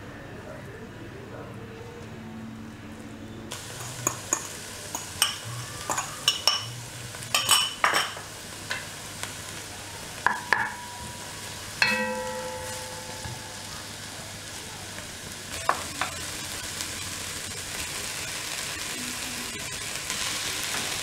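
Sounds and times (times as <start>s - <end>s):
vegetables sizzling in a pot: 3.5s - 21.0s.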